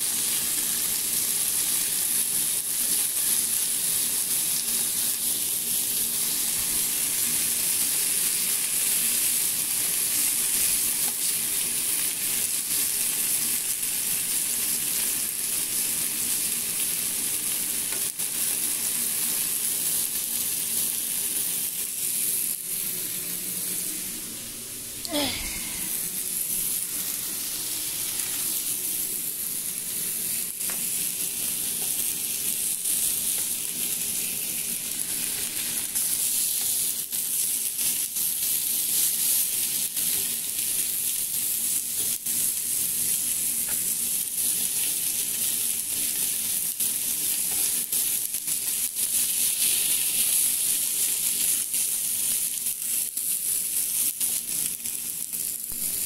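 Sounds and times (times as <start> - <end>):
chicken sizzling in oil: 0.0 - 24.3, 25.1 - 56.0.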